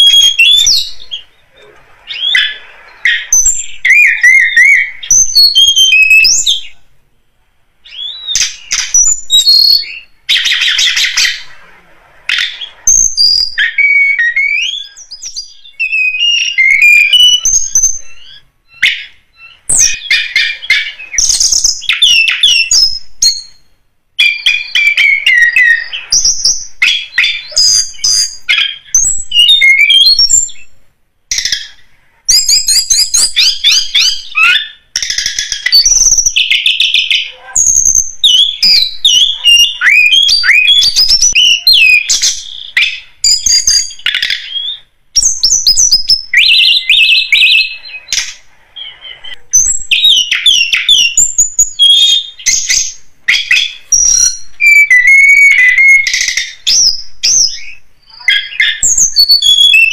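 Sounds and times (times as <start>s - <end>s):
bird twittering and chirping: 0.0s - 7.0s, 7.8s - 59.9s.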